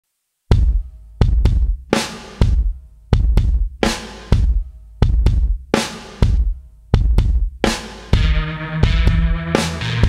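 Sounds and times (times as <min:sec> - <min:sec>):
drum kit beat: 0:00.5 - 0:10.0.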